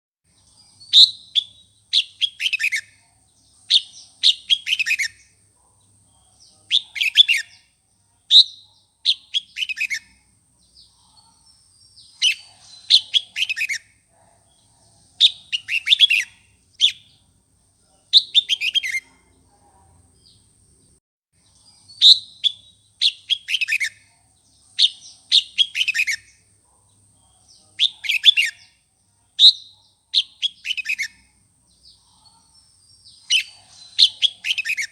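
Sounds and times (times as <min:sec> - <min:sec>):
bird singing: 0:00.3 - 0:34.9.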